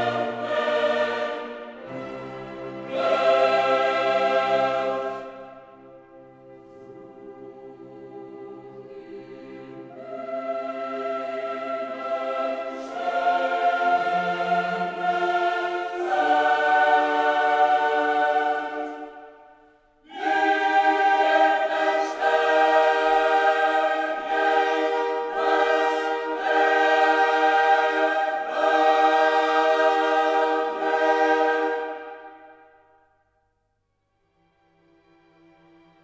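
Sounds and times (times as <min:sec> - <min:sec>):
choir singing long chords: 0:00.0 - 0:33.3.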